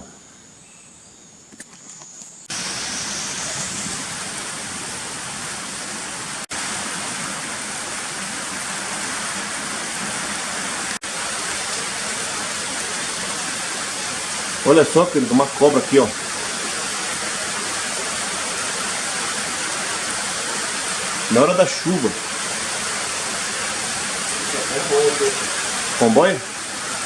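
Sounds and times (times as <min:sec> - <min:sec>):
heavy rain hissing: 0:02.5 - 0:27.0.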